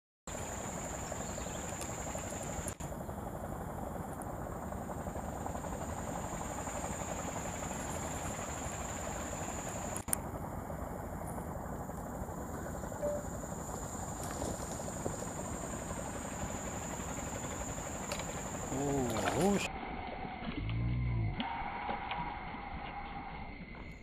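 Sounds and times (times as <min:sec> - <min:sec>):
high-pitched insect drone: 0:00.3 - 0:03.8, 0:04.5 - 0:10.0, 0:11.0 - 0:24.0
outdoor rumbling noise: 0:00.3 - 0:24.0.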